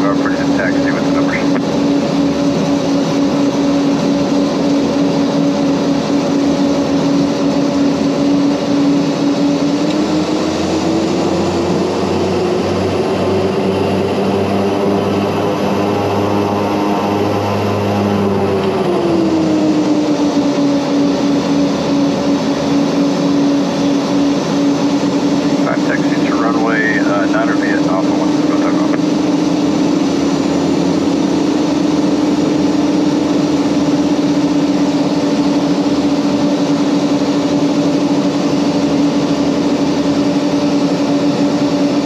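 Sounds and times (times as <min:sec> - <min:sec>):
turboprop engines droning: 0:00.0 - 0:42.0.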